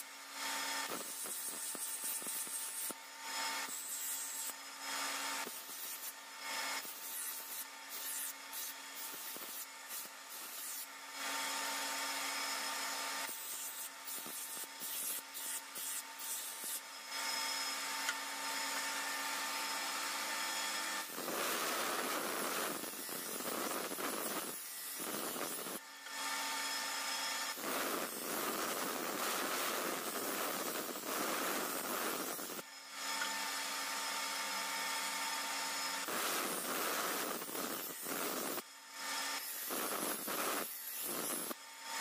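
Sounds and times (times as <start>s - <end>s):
blade rasping on grinding wheel: 0.4s - 17.7s, 18.8s - 33.4s, 35.4s - 42.0s.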